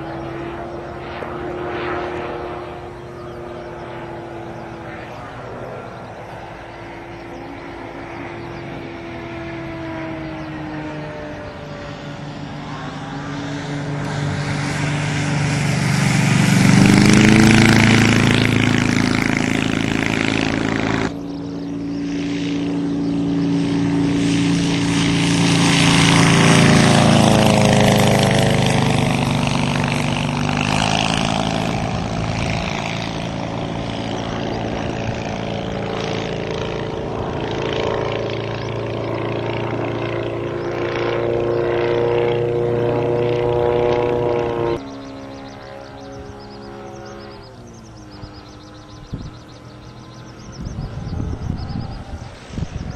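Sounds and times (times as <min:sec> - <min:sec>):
propeller airplane passing: 0:00.0 - 0:52.9.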